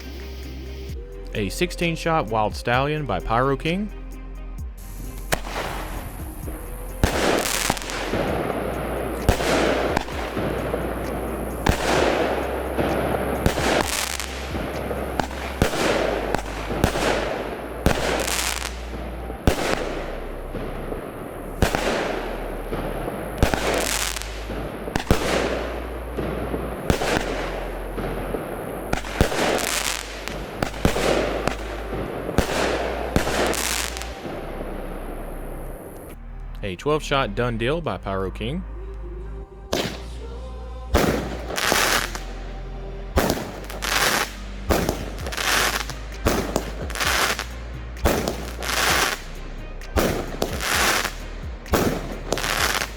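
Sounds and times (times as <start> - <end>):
fireworks bangs with hiss: 4.6 - 36.2, 39.7 - 40.3, 40.9 - 42.5, 43.1 - 52.9.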